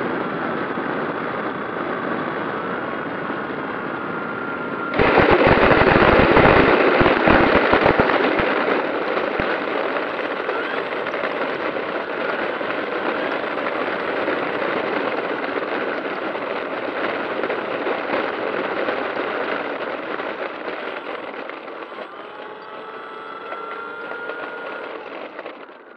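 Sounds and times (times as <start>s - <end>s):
faint thin whine: 0.0s - 25.9s
model plane taxiing on asphalt: 0.0s - 25.9s.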